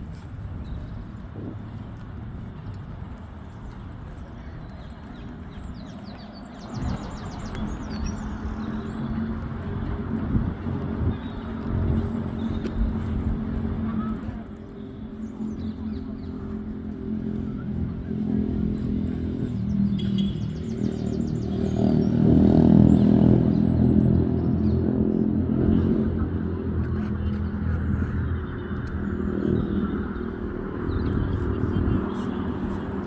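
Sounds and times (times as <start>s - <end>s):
vehicle engine humming: 0.0s - 33.0s.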